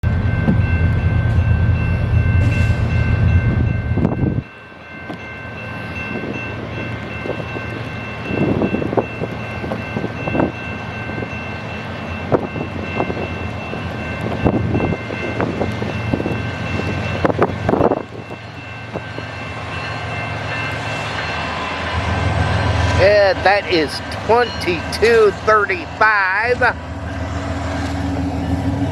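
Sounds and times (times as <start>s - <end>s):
high ringing tones: 0.0s - 27.2s
diesel locomotive rumble: 0.0s - 28.9s.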